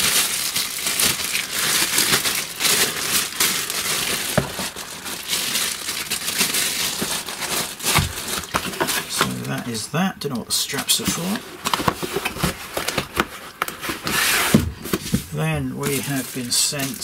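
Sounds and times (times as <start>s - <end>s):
plastic bag crinkling and rustling: 0.0s - 9.8s, 10.6s - 17.0s.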